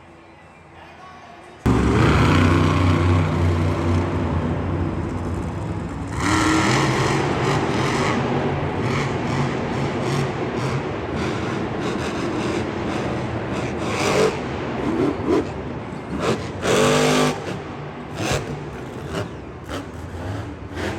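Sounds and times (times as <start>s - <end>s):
vehicle engine running loud: 1.7s - 20.9s.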